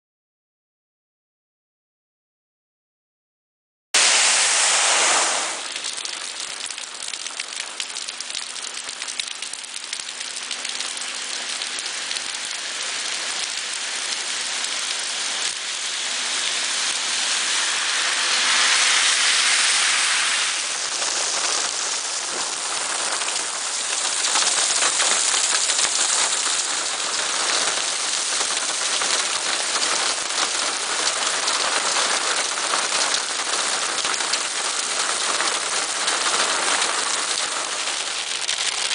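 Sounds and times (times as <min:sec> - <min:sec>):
torrential rain pouring: 0:04.0 - 0:38.9.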